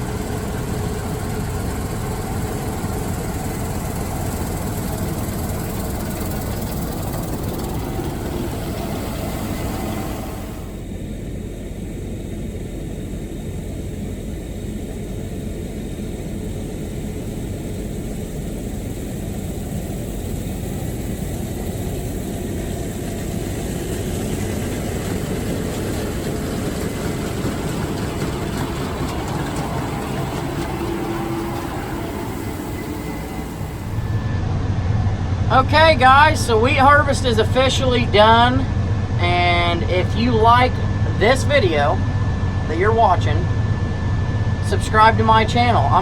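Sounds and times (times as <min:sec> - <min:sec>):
heavy engine rumbling: 0:00.0 - 0:46.0.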